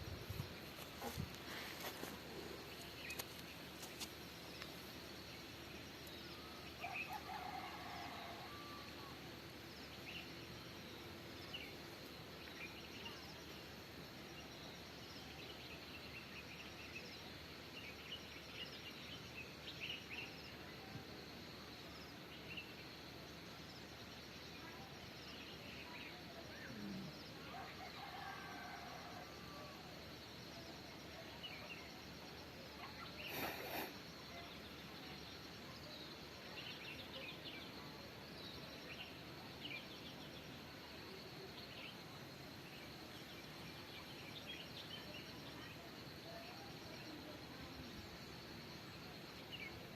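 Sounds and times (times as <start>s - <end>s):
outdoor background hiss: 0.0s - 49.9s.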